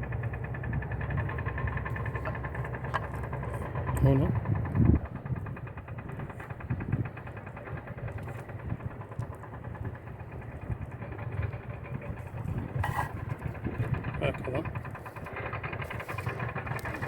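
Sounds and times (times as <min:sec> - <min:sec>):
engine running with pulsing rhythm: 0:00.0 - 0:17.0.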